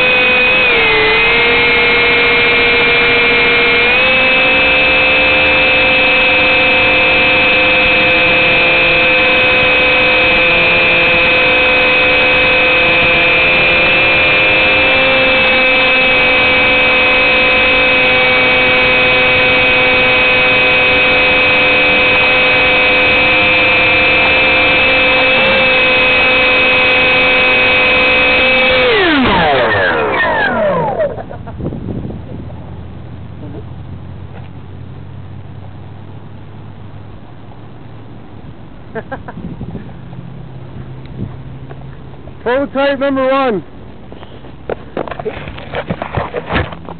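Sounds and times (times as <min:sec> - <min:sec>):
ducted fans whining: 0:00.0 - 0:46.9.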